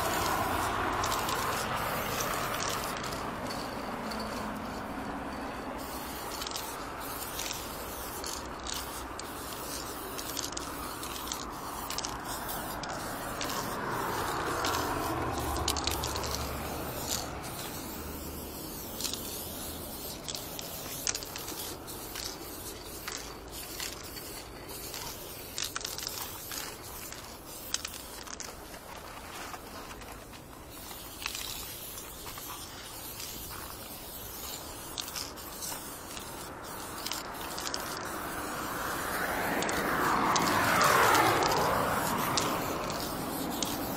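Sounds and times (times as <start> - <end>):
spray paint can hissing: 0.0 - 43.9.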